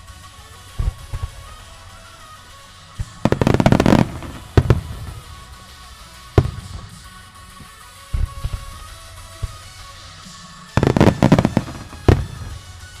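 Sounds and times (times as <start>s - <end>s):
music: 0.0s - 13.0s
fireworks booming: 0.6s - 2.2s, 2.9s - 13.0s.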